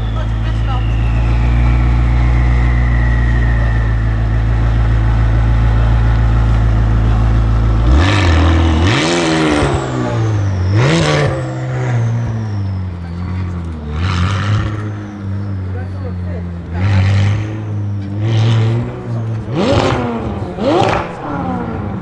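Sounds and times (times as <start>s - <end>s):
car engine idling and revving: 0.0s - 22.0s
car pulling away: 0.0s - 22.0s.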